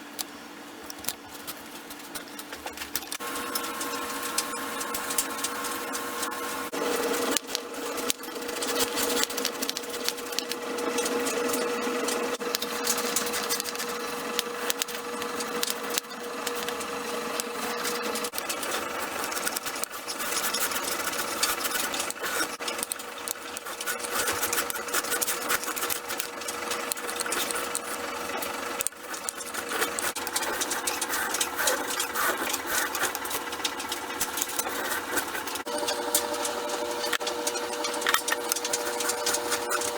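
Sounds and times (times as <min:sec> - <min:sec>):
steady hum: 0:00.0 - 0:39.9
small electric power tool rattling: 0:00.9 - 0:39.9.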